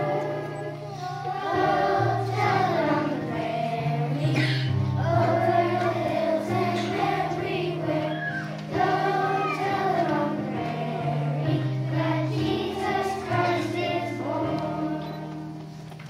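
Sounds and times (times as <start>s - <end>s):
children's choir singing: 0.0s - 15.7s.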